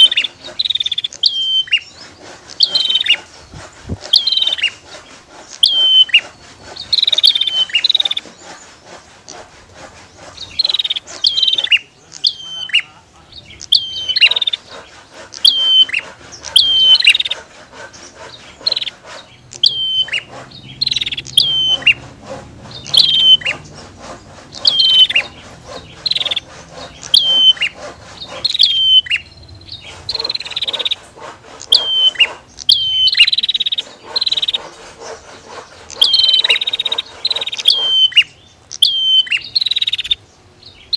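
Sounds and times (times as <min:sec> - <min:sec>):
bird calling high sharp notes: 0:00.0 - 0:40.9.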